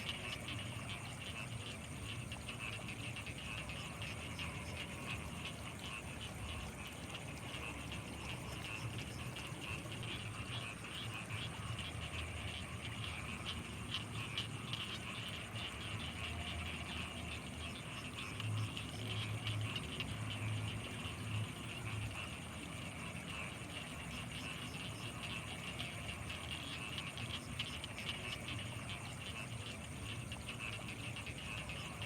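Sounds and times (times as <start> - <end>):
fast-pulsing insect chatter: 0.0 - 32.0
low throbbing frog croaks: 0.0 - 32.0.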